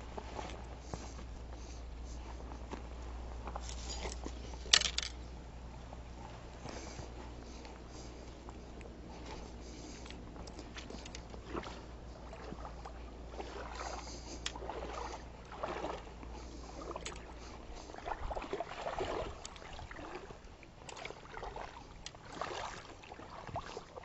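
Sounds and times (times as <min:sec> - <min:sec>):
water sloshing from wading: 0:00.0 - 0:24.0.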